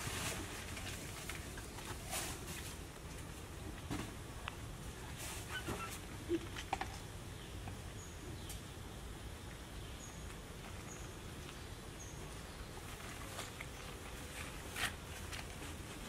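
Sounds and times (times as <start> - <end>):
rustles: 0.0 - 8.7, 9.4 - 16.0.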